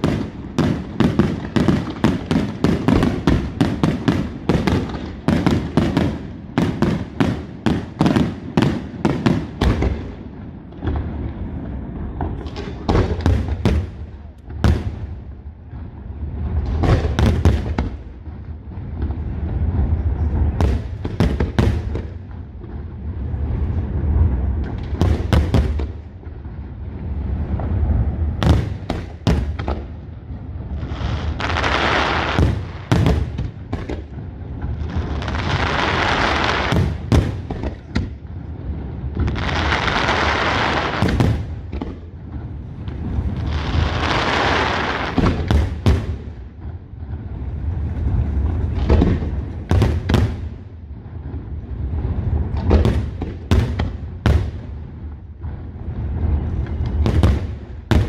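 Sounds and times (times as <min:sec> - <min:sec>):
firework booms and cracks: 0:00.0 - 0:58.0
hissing firework crackle: 0:00.0 - 0:58.0.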